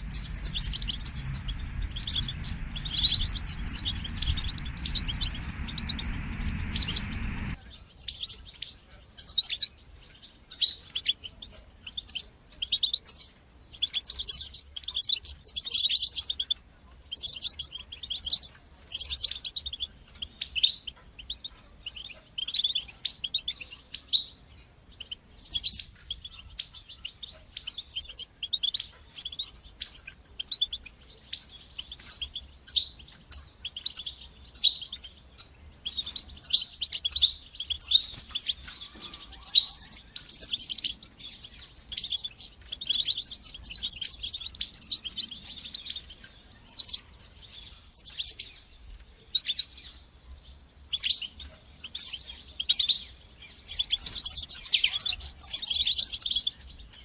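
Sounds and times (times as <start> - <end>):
goldfinch twittering and trilling: 0.0 - 57.0.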